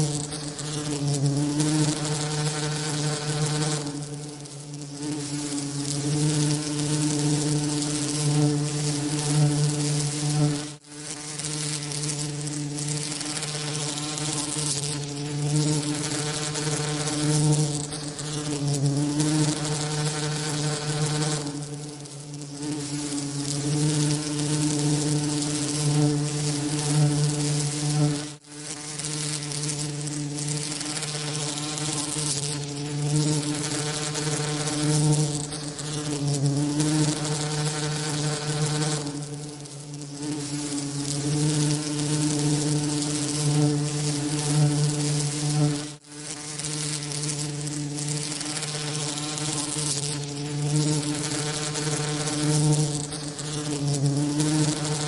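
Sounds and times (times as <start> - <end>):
bee wings buzzing: 0.0 - 55.0.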